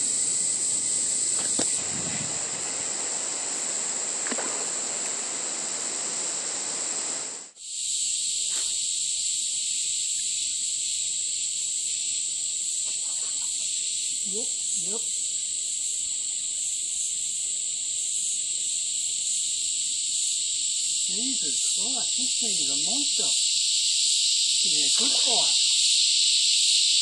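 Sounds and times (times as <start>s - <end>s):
cicadas droning: 0.0s - 27.0s
low hiss: 0.0s - 27.0s.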